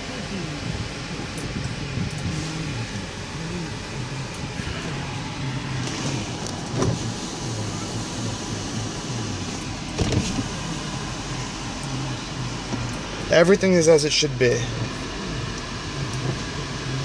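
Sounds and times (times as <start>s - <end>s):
power window motors whirring: 0.0s - 13.7s, 14.7s - 17.0s
air conditioning blower: 0.0s - 17.0s.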